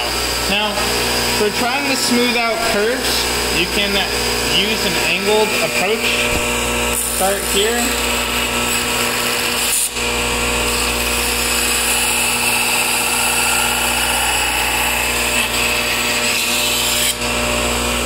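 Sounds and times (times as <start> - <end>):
belt sander grinding wood: 0.0 - 18.0.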